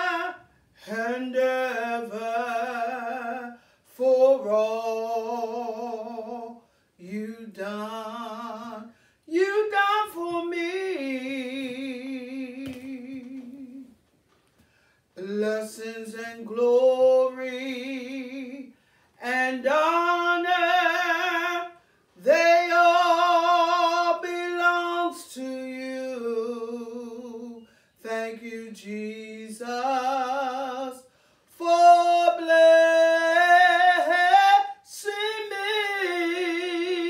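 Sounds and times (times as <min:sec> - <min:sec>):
woman singing gospel song: 0:00.0 - 0:14.0, 0:15.2 - 0:37.0.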